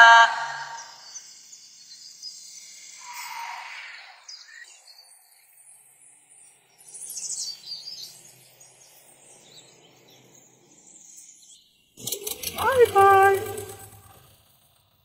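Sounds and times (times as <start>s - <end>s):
high bird chirps: 0.0s - 14.2s
insect-like trills: 0.0s - 14.8s.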